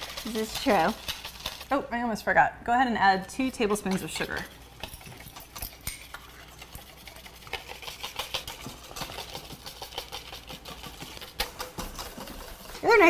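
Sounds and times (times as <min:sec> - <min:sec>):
whisk clicking against bowl: 0:00.0 - 0:01.7, 0:03.5 - 0:13.0.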